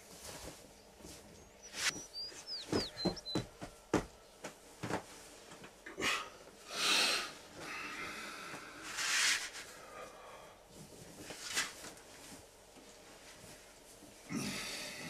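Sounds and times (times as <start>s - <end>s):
clothes and bedding rustling: 0.0s - 6.7s, 7.3s - 14.3s.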